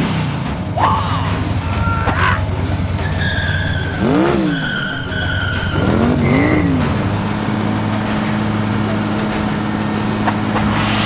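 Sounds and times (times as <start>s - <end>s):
car engine revving: 0.0s - 11.0s
tyres screeching: 0.0s - 11.0s.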